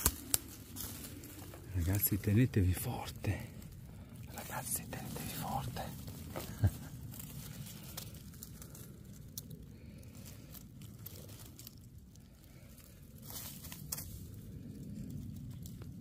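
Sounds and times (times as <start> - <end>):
twigs snapping: 0.0 - 2.1, 5.0 - 16.0
dry leaves crackling and rustling: 0.0 - 16.0.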